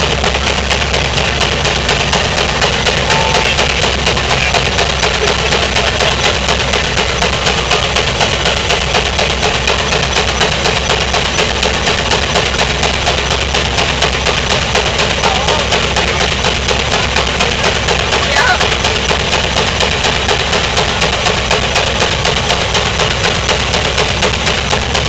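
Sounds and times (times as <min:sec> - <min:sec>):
steam engine exhaust beating: 0:00.0 - 0:25.0.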